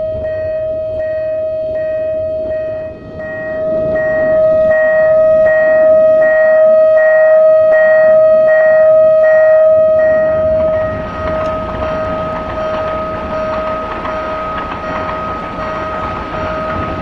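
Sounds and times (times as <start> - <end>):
level crossing warning signal: 0.0 - 17.0.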